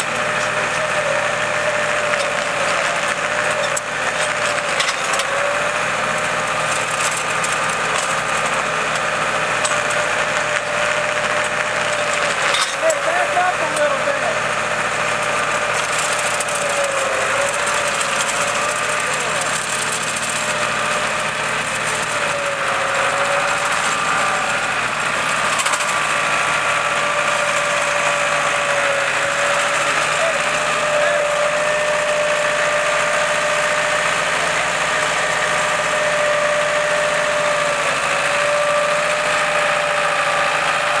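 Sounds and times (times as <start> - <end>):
steady whine: 0.0 - 41.0
tractor engine running: 0.0 - 41.0.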